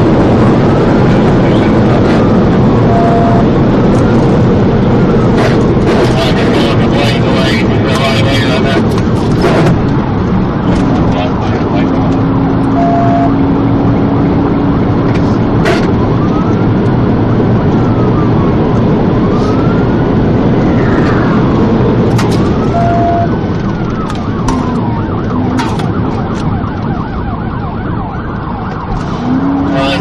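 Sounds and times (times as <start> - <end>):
vehicle engine and road noise: 0.0 - 30.0
police siren wailing and yelping: 0.1 - 30.0.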